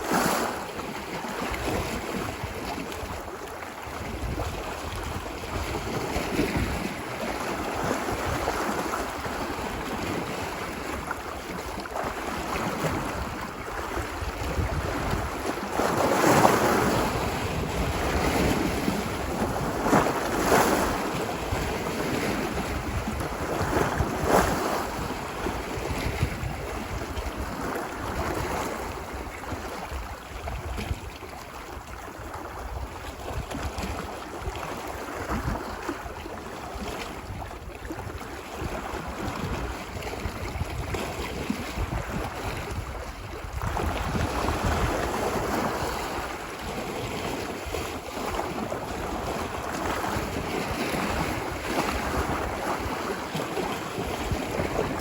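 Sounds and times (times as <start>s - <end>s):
ocean surf washing ashore: 0.0s - 3.5s, 4.1s - 30.2s, 38.1s - 55.0s
wind rumble on microphone: 0.0s - 55.0s.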